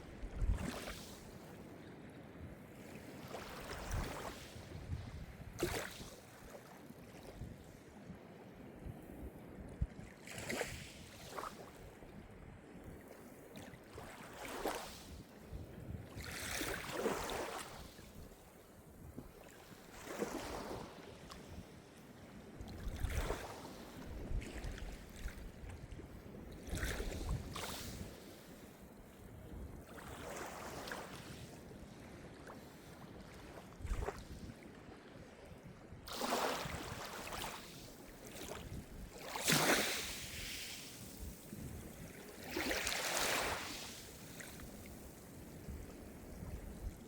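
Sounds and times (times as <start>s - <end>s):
small waves breaking on shore: 0.0s - 8.9s, 9.9s - 12.2s, 12.9s - 47.0s.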